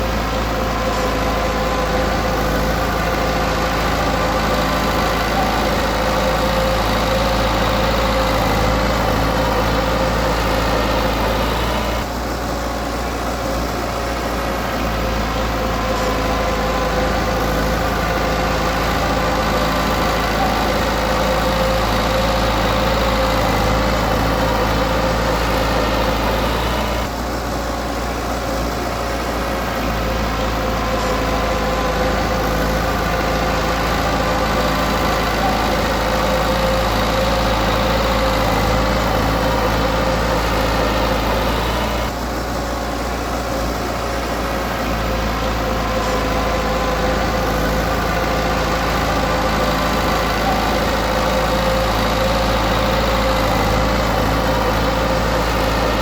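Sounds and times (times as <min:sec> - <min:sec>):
heavy machinery diesel engine running: 0:00.0 - 0:56.0.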